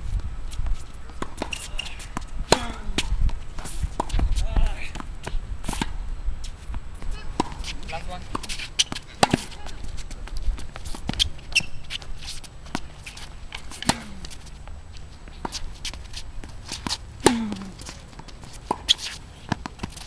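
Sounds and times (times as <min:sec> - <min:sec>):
shoes scuffing on court: 0:00.0 - 0:20.0
racquets striking tennis ball: 0:01.0 - 0:06.0, 0:06.6 - 0:20.0
tennis ball bouncing: 0:01.1 - 0:06.0, 0:07.0 - 0:20.0.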